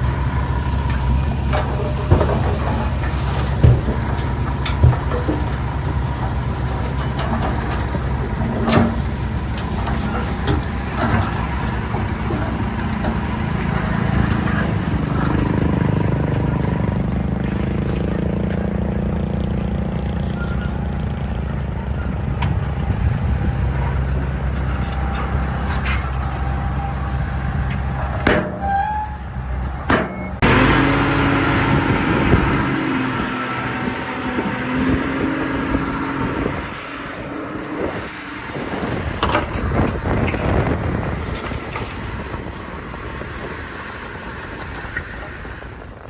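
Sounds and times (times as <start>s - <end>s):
diesel machinery running under load: 0.0s - 46.0s
noisier engine: 0.0s - 46.0s.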